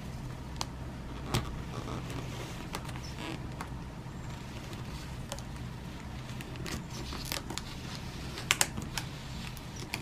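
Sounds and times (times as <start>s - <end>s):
plastic packaging crackling: 1.2s - 10.0s.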